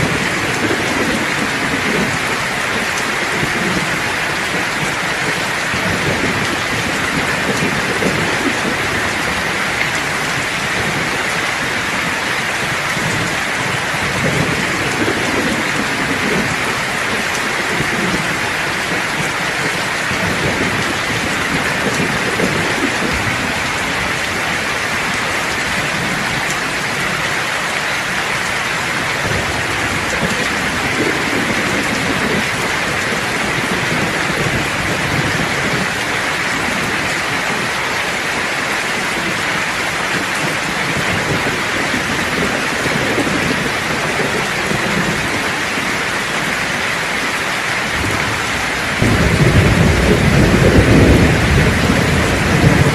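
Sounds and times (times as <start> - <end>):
low rolling thunder: 0.0 - 27.2, 28.8 - 37.7, 40.2 - 46.8, 47.8 - 52.9
heavy rain: 0.0 - 52.9.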